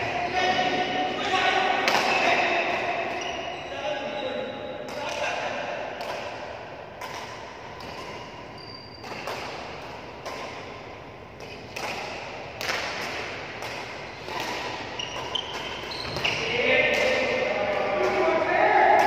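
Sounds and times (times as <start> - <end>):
rackets hitting shuttlecock: 1.7 - 3.4, 4.8 - 19.0.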